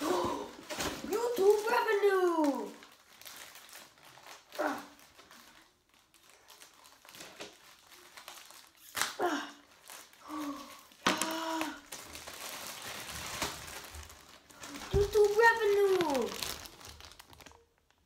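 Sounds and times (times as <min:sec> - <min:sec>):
paper and plastic crinkling: 0:00.0 - 0:18.0.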